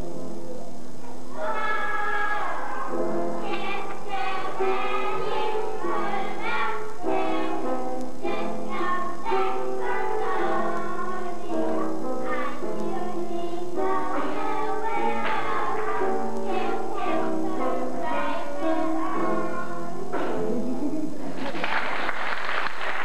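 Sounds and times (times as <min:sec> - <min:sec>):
musical accompaniment: 0:00.0 - 0:21.4
children singing: 0:01.3 - 0:21.2.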